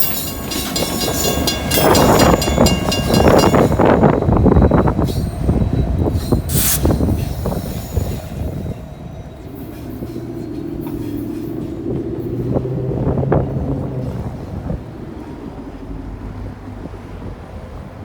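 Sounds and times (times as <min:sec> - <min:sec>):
train wheels clicking on rails: 0:00.0 - 0:18.0.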